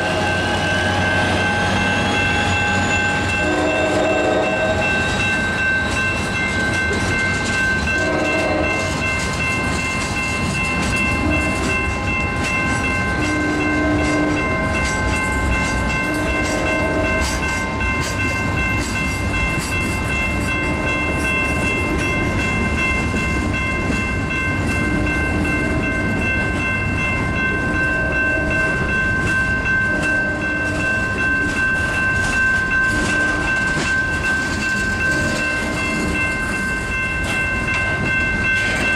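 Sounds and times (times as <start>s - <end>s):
high ringing tones: 0.0s - 38.9s
train wheels clacking on rails: 0.0s - 38.9s.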